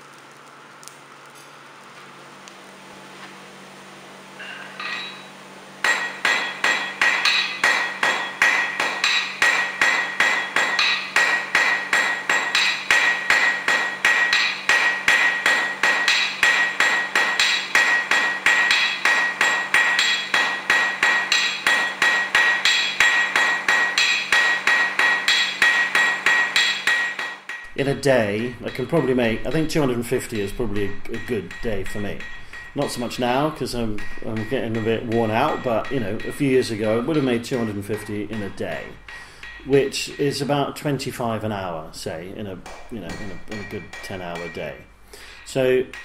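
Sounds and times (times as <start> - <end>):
hammer striking metal on anvil: 4.7 - 41.0, 42.2 - 46.0.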